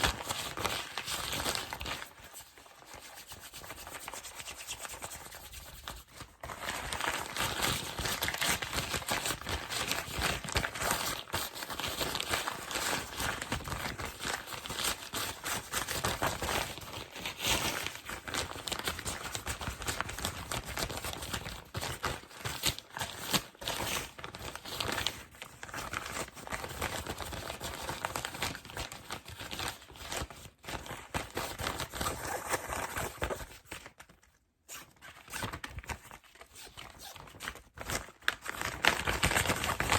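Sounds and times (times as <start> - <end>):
packing material crinkling: 5.6 - 39.9.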